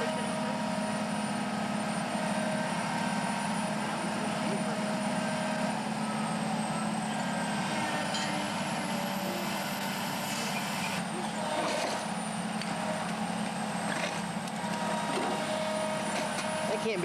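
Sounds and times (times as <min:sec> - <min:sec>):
heavy machinery engine droning: 0:00.0 - 0:17.0.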